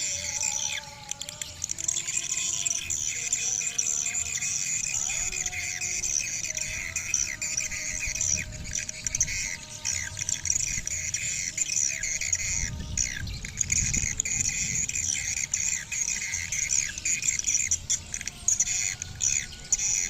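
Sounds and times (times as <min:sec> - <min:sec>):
swiftlets twittering: 0:00.0 - 0:20.0.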